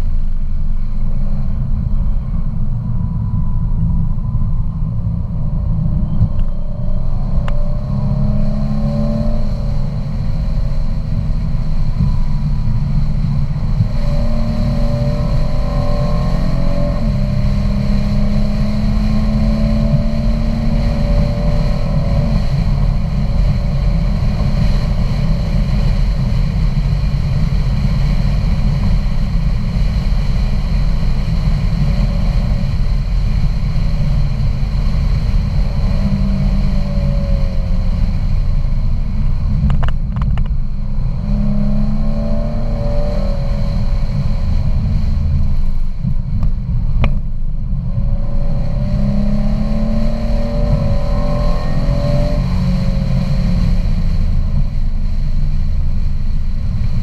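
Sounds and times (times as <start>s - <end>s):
road rumble inside car: 0.0s - 57.0s
car engine revving: 1.0s - 57.0s.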